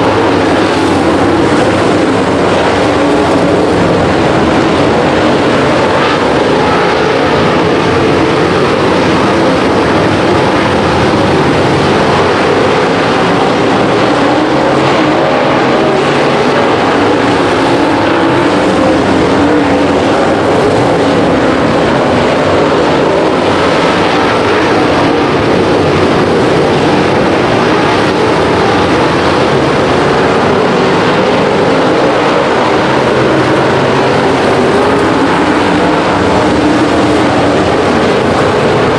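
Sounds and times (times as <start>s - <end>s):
racing engines running: 0.0s - 38.9s.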